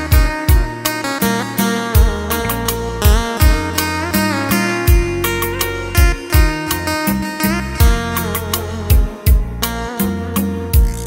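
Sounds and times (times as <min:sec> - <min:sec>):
drum and bass accompaniment: 0:00.0 - 0:11.0
electronic organ rumba melody: 0:00.0 - 0:11.0.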